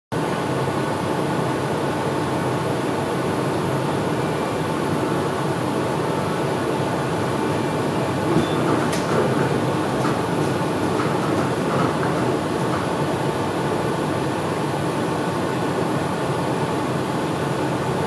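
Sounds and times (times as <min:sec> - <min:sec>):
train rumble with hiss: 0:00.2 - 0:18.0.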